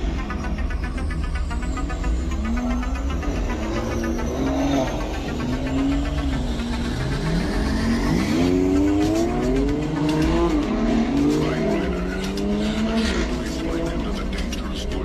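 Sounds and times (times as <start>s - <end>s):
sports car engines revving: 0.0s - 15.0s.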